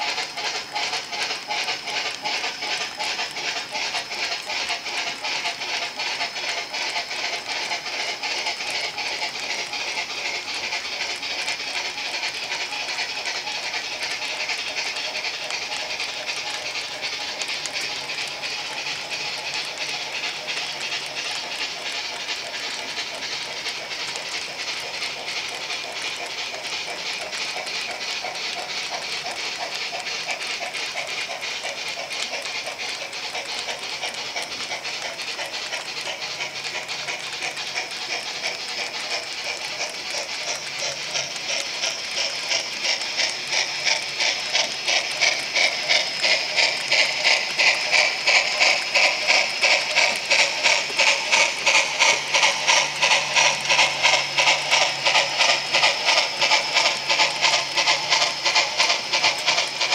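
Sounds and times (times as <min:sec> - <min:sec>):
model train wheels clicking: 0:00.0 - 0:59.9.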